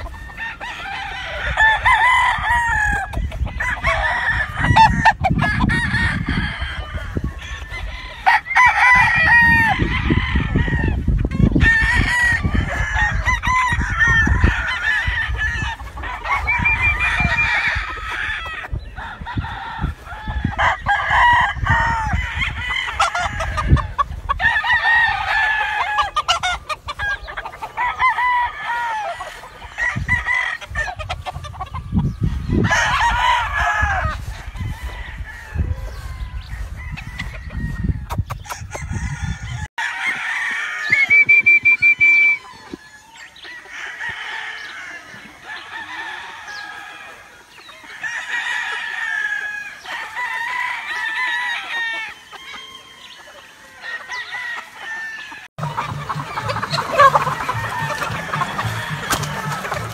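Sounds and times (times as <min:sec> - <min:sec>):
chickens clucking: 0:00.0 - 0:59.9
roosters crowing: 0:00.0 - 0:59.9.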